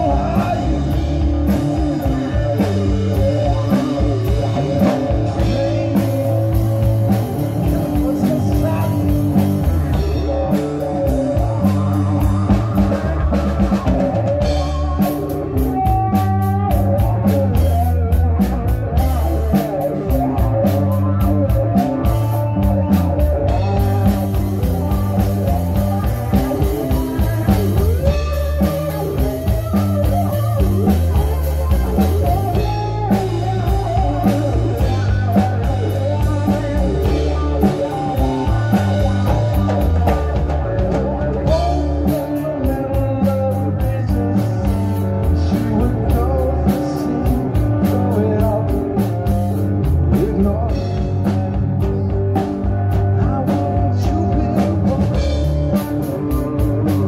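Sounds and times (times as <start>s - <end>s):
bass guitar: 0.0s - 57.0s
drum kit beat: 0.0s - 57.0s
electric guitar: 0.0s - 57.0s.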